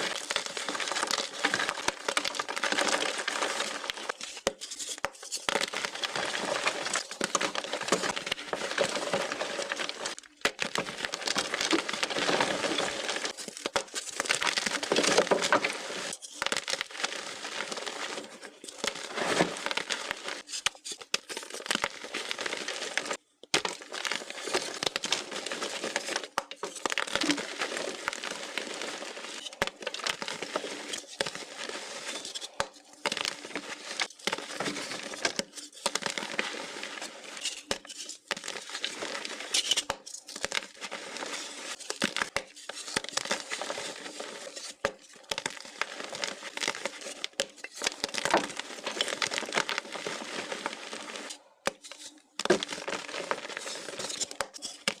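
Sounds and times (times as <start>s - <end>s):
crinkling and crackling: 0.0s - 55.0s.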